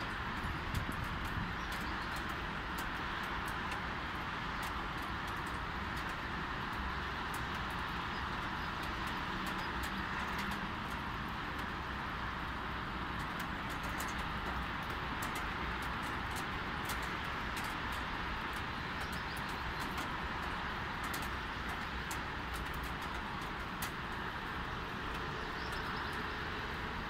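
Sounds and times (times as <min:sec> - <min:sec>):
distant road traffic rumble: 0:00.0 - 0:27.0
light rain falling: 0:00.0 - 0:27.0.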